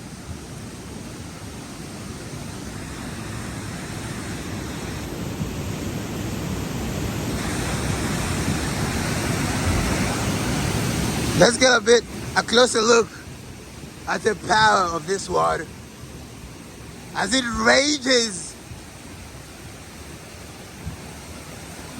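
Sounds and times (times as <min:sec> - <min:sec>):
rushing floodwater roar: 0:00.0 - 0:21.9.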